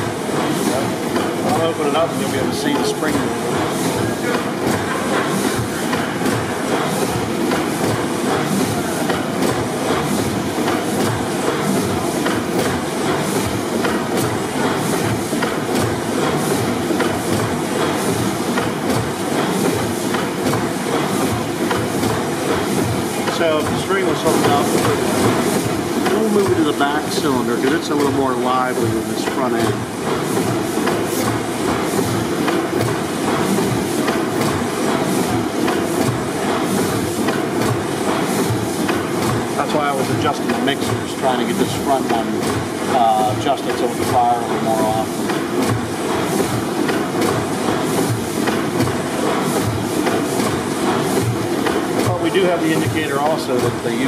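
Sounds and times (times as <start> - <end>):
gas engine mechanical din: 0.0 - 54.0
sharp engine clicks: 2.6 - 53.9.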